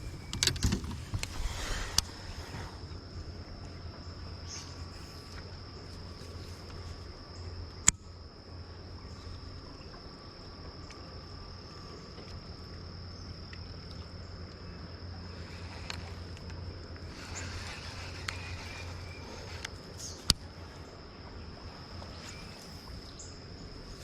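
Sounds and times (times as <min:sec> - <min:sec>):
high-pitched insect trill: 0:00.0 - 0:24.0
low steady hum: 0:00.0 - 0:24.0.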